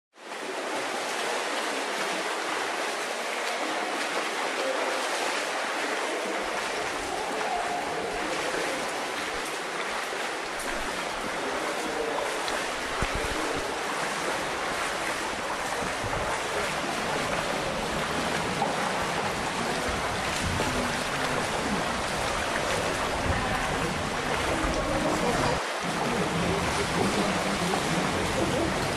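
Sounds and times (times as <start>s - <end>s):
waterfall rushing: 0.2s - 28.9s.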